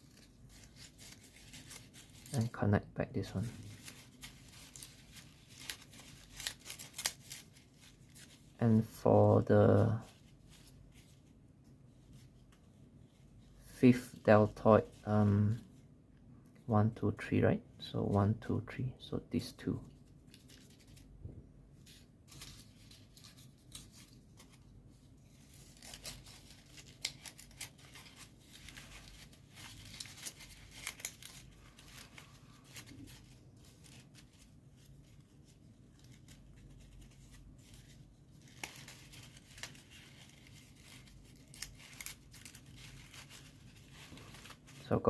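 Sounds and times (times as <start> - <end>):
paper rustling and crinkling: 0.0 - 15.8, 19.6 - 45.0.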